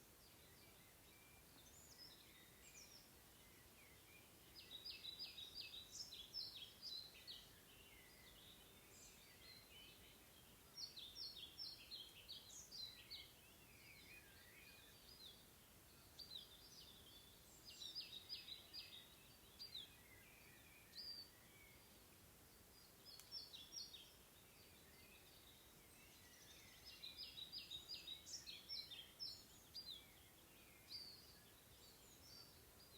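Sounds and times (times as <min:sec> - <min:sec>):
outdoor ambience hiss: 0:00.0 - 0:32.9
songbirds chirping: 0:00.0 - 0:32.9.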